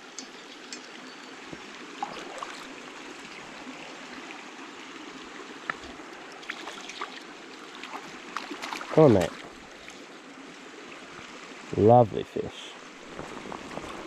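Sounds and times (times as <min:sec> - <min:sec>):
stream trickling over its bed: 0:00.0 - 0:14.0.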